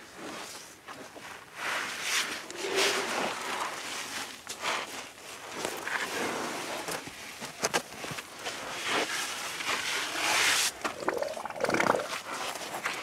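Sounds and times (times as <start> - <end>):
elephants rustling and scuffing: 0.2 - 11.0.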